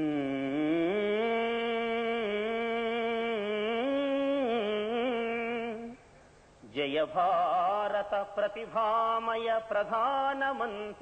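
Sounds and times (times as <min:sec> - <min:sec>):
man singing a long vowel: 0:00.0 - 0:06.0, 0:06.6 - 0:11.0.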